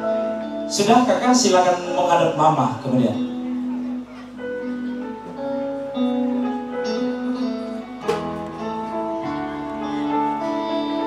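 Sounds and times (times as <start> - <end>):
slow instrumental music: 0.0 - 11.0.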